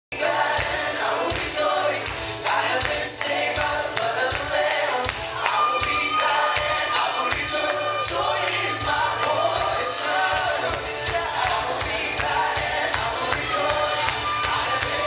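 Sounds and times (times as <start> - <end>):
people singing: 0.1 - 15.0
worship band playing: 0.2 - 15.0
percussion hits: 0.5 - 15.0.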